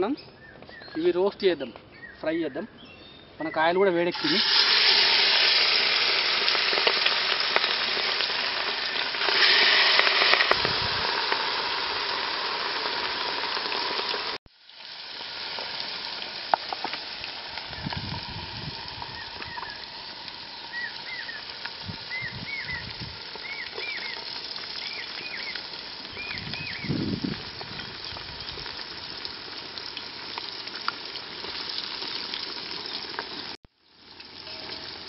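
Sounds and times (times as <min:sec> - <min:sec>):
fish deep-frying in oil: 0:04.1 - 0:35.0.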